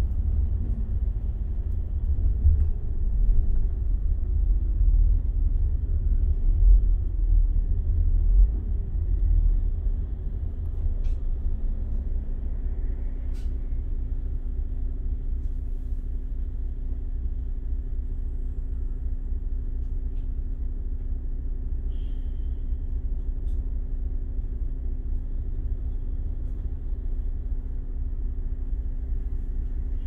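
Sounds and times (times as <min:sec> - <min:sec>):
bus engine idling rumble: 0:00.0 - 0:30.0.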